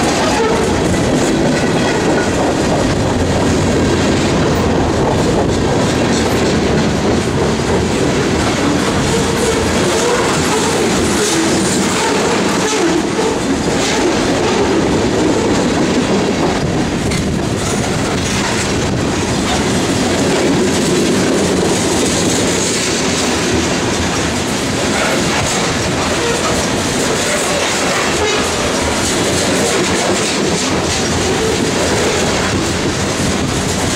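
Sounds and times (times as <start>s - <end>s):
clickety-clack over rail joints: 0.0s - 33.9s
rumble of train wheels on rail: 0.0s - 33.9s.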